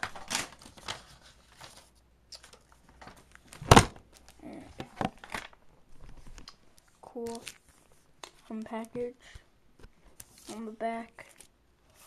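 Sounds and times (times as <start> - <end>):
wrapping rustling and crinkling: 0.0 - 12.0.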